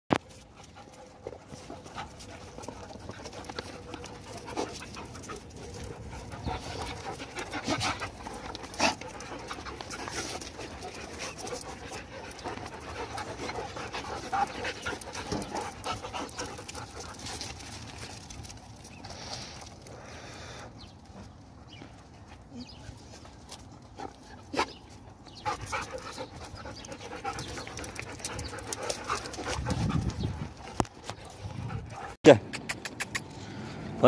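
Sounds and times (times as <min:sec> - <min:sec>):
dogs panting: 0:00.2 - 0:33.4.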